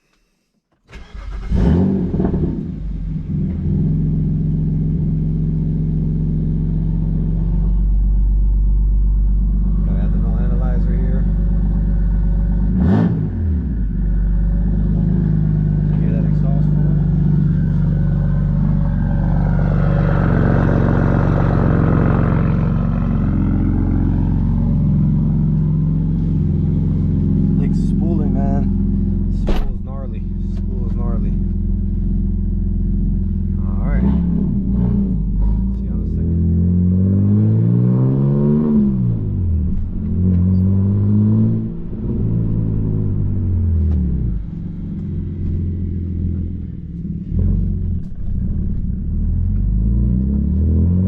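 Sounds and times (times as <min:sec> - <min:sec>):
car engine idling: 0:00.9 - 0:36.6, 0:41.6 - 0:49.8.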